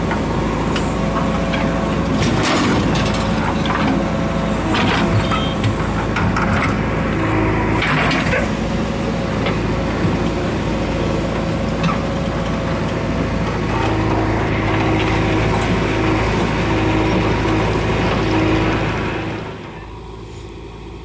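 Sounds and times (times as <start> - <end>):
diesel engine running under load: 0.0 - 21.0
hydraulics whining: 0.0 - 21.0.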